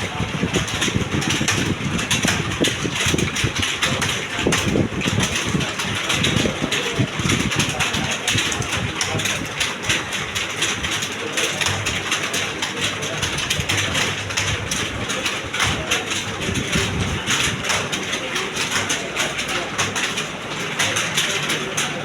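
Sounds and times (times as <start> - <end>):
keyboards typing clatter: 0.0 - 22.0.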